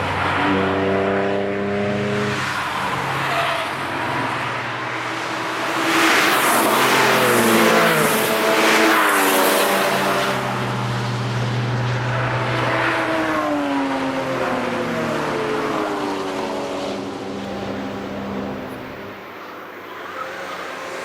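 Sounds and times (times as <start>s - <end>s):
cars passing at speed: 0.0s - 21.0s.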